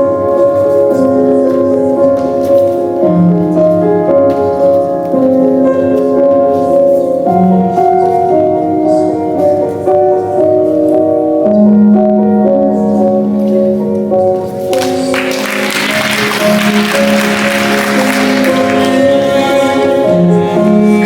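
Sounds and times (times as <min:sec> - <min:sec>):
sustained piano chords: 0:00.0 - 0:21.0.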